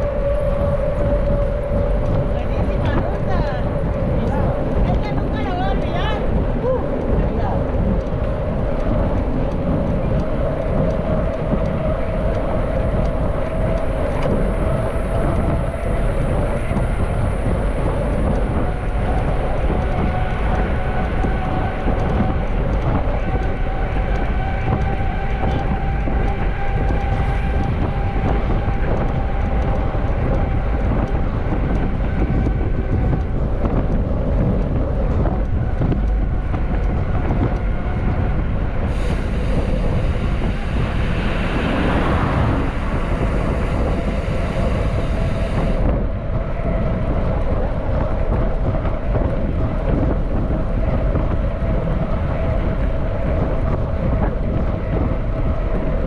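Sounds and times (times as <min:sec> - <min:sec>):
bike tyre noise: 0:00.0 - 0:56.0
faint steady whine: 0:00.0 - 0:56.0
wind rushing over microphone: 0:00.0 - 0:56.0.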